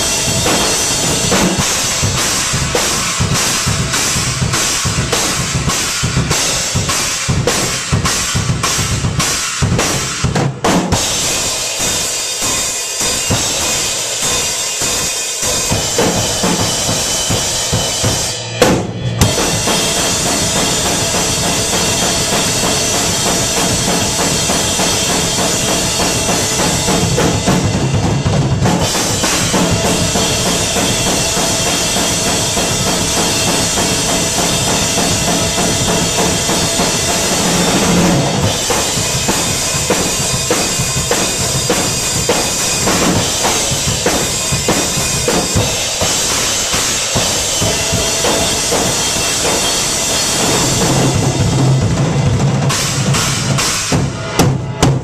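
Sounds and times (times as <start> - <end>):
drum kit playing rock beat: 0.0 - 55.0.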